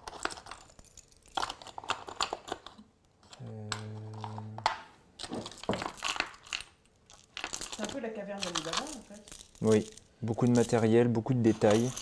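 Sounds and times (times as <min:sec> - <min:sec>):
trinkets clicking and rattling: 0:00.0 - 0:04.5, 0:05.2 - 0:12.0.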